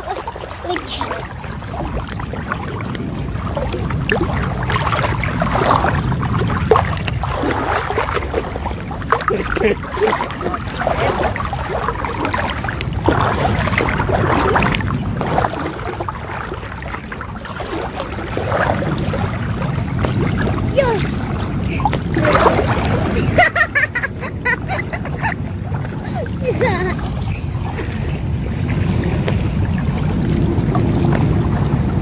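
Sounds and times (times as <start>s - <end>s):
steady low rumble: 0.0s - 32.0s
water sloshing as people wade: 0.0s - 32.0s.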